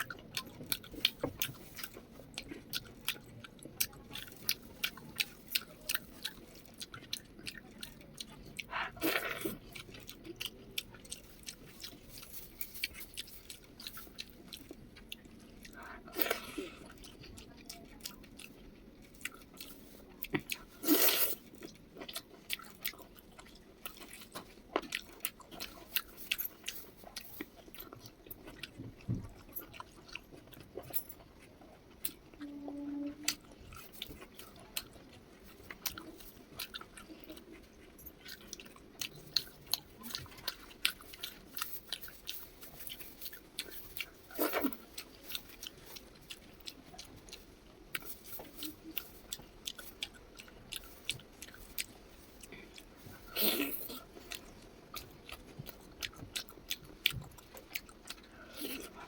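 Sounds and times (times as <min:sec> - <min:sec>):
person chewing and biting food: 0:00.0 - 0:59.0.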